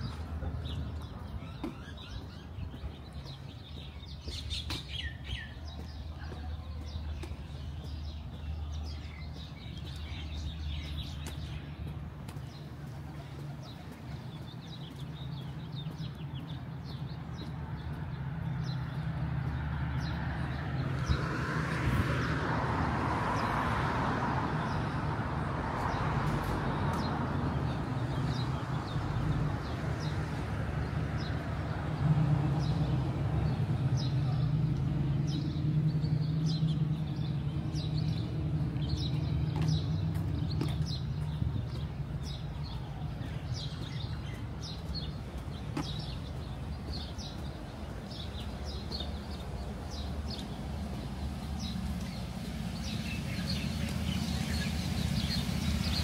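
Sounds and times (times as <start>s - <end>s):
small birds chirping: 0.0s - 22.4s, 25.8s - 56.0s
low traffic hum: 0.0s - 56.0s.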